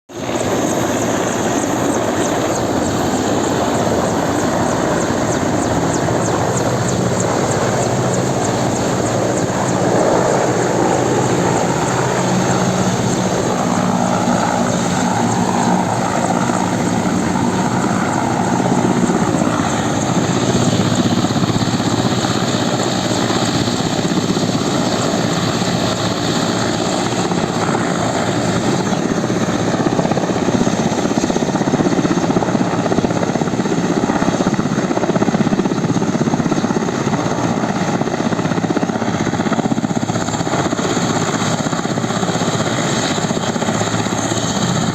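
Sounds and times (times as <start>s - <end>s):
helicopter rotor and engine: 0.1s - 44.9s.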